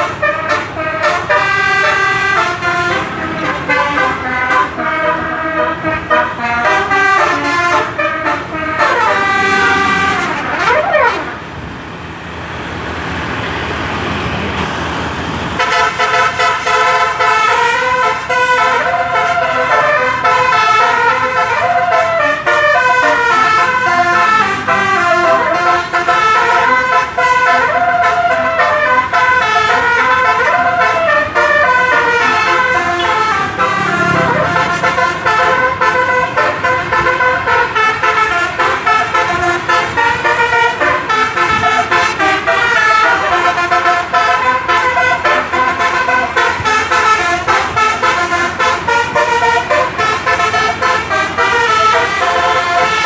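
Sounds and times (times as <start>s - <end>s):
musical bus horn melody: 0.0s - 11.7s, 15.5s - 53.0s
bus noise: 0.0s - 53.0s.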